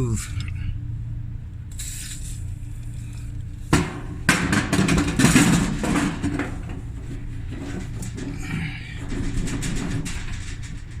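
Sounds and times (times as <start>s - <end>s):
steady low hum: 0.0s - 11.0s
roller clattering and scraping: 1.9s - 11.0s.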